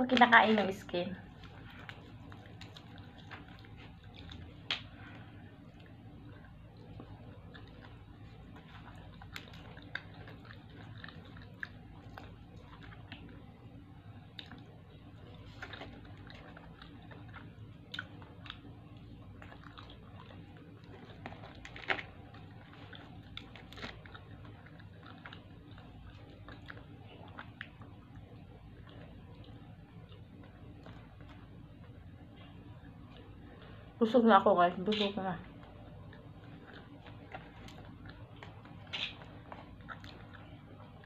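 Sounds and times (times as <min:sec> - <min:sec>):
steady low hum: 0:00.0 - 0:41.0
chewing clicks and smacks: 0:01.3 - 0:33.4, 0:34.8 - 0:41.0.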